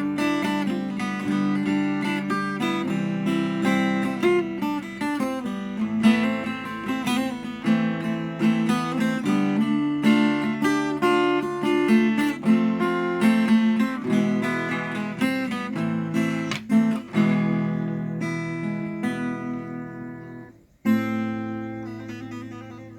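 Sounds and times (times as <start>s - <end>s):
acoustic guitar strumming and picking: 0.0s - 22.9s.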